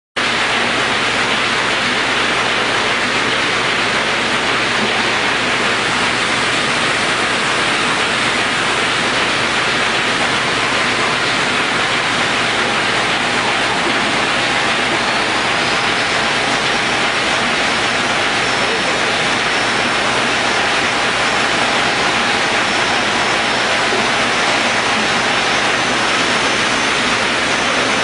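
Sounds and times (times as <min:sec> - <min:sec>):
steady loud rushing noise: 0:00.2 - 0:28.0.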